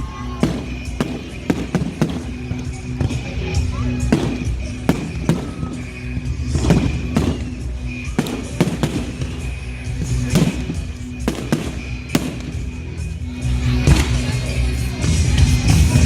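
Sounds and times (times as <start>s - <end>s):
fireworks bursting: 0.0s - 14.5s
music playing: 0.0s - 16.0s.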